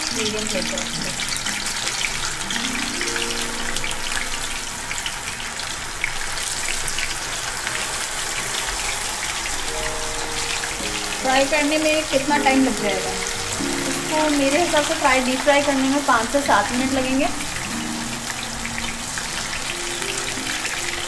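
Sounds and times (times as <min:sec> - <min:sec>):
deep-frying sizzle with crackling: 0:00.0 - 0:21.0.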